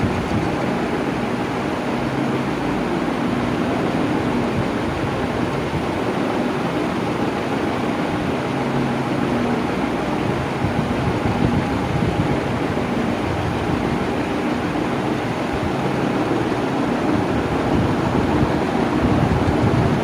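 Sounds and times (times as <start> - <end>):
electric fan air rush: 0.0 - 20.0.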